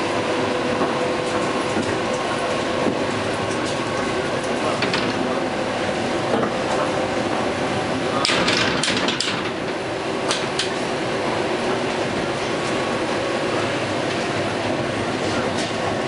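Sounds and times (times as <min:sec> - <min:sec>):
electric train running noise: 0:00.0 - 0:16.0.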